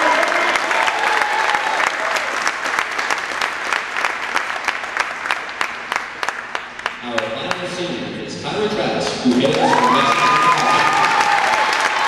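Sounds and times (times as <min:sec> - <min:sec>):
crowd applauding: 0:00.0 - 0:07.8, 0:09.0 - 0:12.0.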